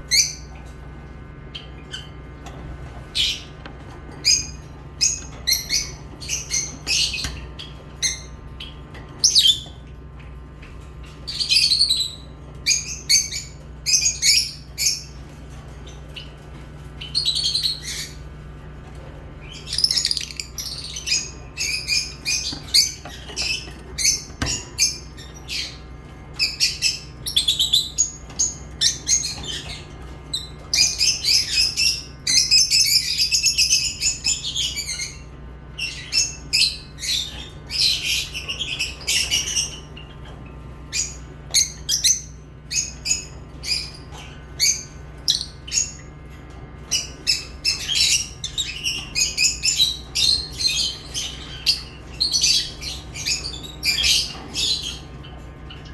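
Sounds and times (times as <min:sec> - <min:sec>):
lovebirds chirping and squawking: 0:00.0 - 0:55.9
steady low hum: 0:00.0 - 0:55.9.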